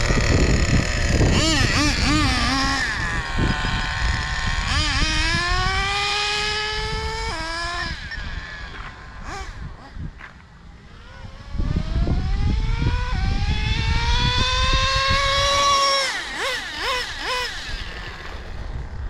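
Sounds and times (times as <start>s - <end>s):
nitro engine revving: 0.0s - 19.0s.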